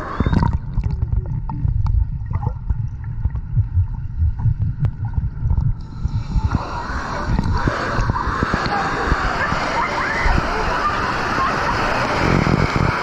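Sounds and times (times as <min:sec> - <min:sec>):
water sloshing and gurgling: 0:00.0 - 0:10.7.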